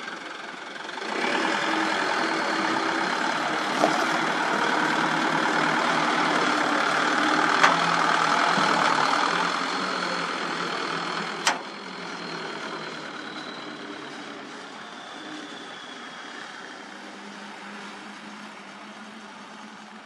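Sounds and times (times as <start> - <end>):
truck diesel engine pulling away: 0.0 - 20.0.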